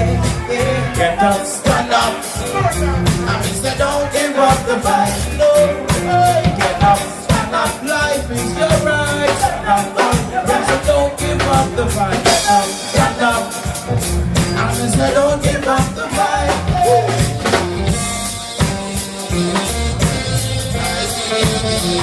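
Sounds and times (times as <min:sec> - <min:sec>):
bass guitar: 0:00.0 - 0:22.0
drum kit: 0:00.0 - 0:22.0
live reggae band playing: 0:00.0 - 0:22.0.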